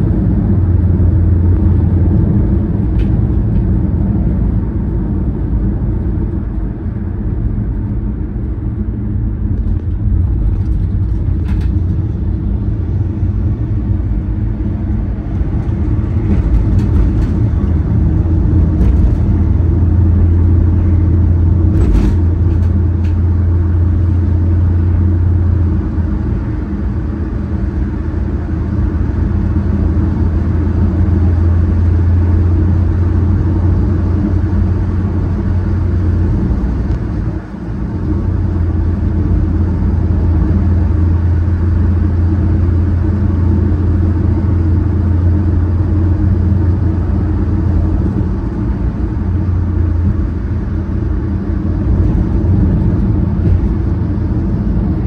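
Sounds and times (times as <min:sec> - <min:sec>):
car engine rumble: 0:00.0 - 0:55.0
tyre road noise: 0:00.0 - 0:55.0.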